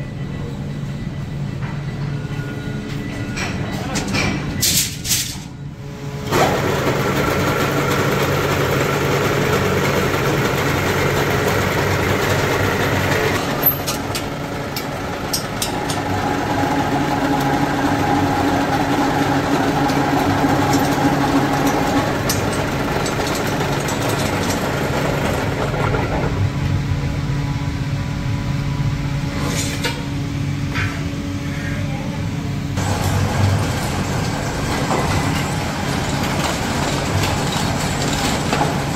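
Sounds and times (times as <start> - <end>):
metalworking machine humming: 0.0 - 38.9.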